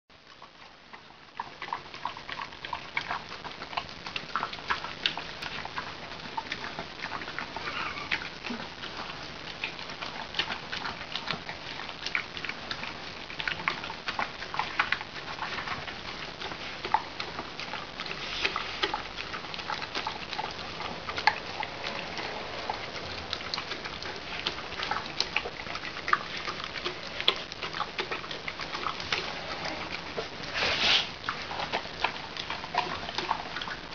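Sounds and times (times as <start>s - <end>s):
animals chewing wet food: 0.1s - 33.9s.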